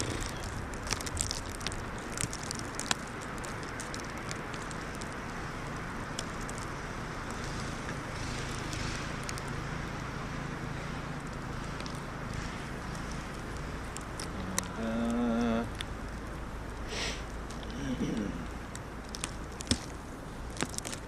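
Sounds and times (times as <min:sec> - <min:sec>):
sharp crackles: 0:00.0 - 0:21.0
snowstorm wind blowing: 0:00.0 - 0:21.0.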